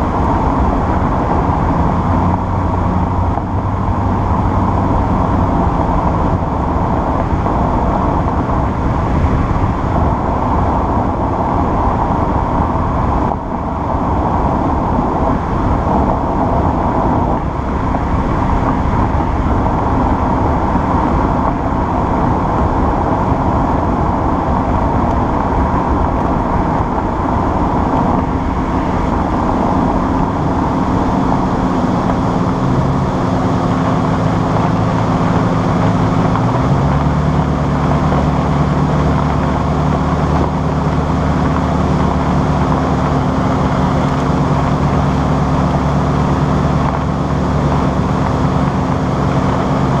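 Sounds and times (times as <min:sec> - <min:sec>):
car engine running at low speed: 0:00.0 - 0:50.0.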